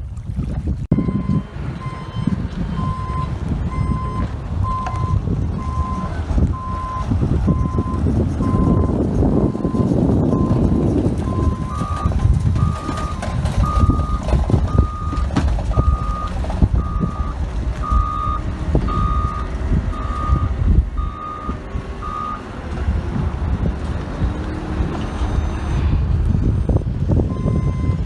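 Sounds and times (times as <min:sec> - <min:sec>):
low engine rumble: 0:00.0 - 0:28.0
reversing alarm beeping: 0:00.9 - 0:22.5, 0:26.5 - 0:28.0.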